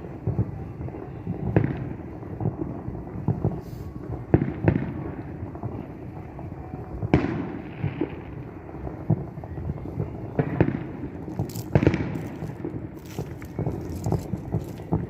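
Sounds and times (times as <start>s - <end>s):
distant fireworks bangs: 0.0s - 15.0s
low rumble of small reports: 0.0s - 15.0s.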